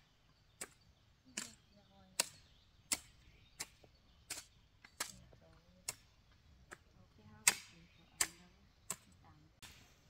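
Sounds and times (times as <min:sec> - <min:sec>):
hoe chopping stony soil: 0:00.0 - 0:10.0.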